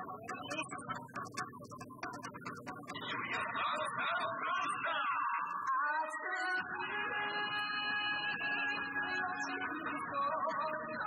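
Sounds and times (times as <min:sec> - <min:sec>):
dance music over loudspeaker: 0:00.0 - 0:11.0.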